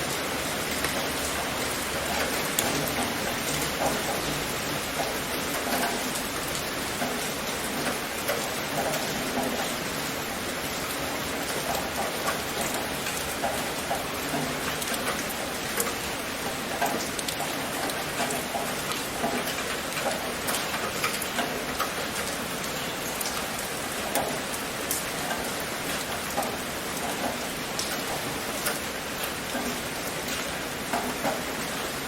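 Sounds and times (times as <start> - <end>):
rain falling: 0.0 - 32.0
raindrops pattering on surface: 0.0 - 32.0.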